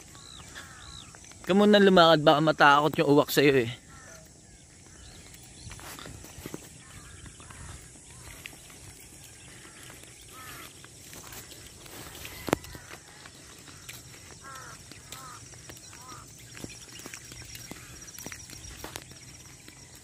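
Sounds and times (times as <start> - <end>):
crows cawing: 0.0 - 1.4, 3.6 - 19.5.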